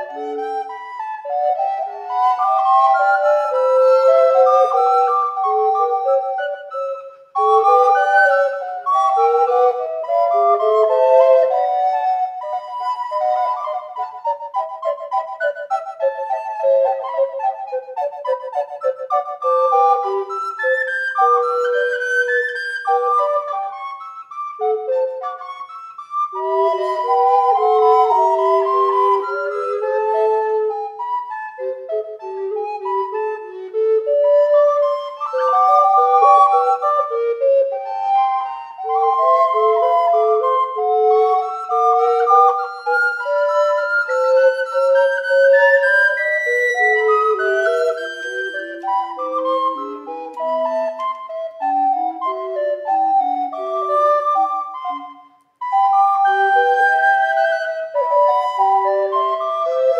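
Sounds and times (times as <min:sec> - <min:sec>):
recorder trio playing harmony: 0:00.0 - 0:59.9.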